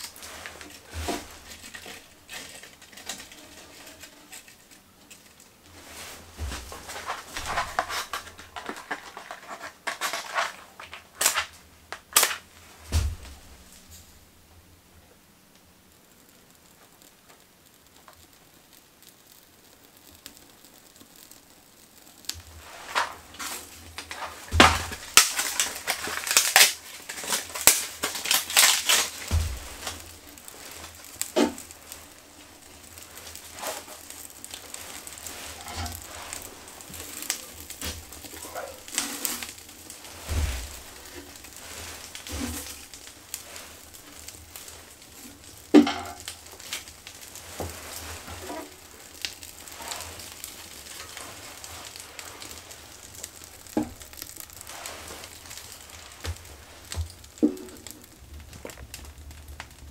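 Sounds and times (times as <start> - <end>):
fire crackling: 0.0 - 59.9
kindling crinkling and knocking: 0.0 - 59.9.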